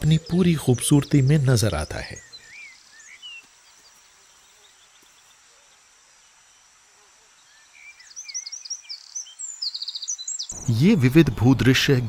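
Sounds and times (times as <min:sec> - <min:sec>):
insects humming: 0:00.0 - 0:12.0.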